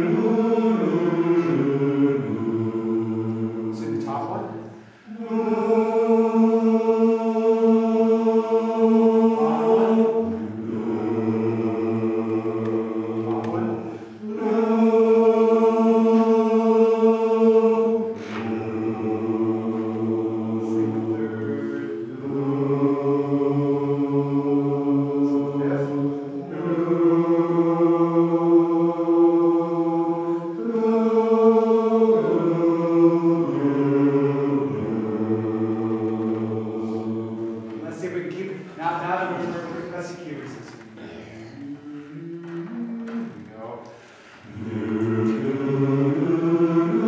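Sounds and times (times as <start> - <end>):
men's chorus singing a cappella: 0.0 - 47.0.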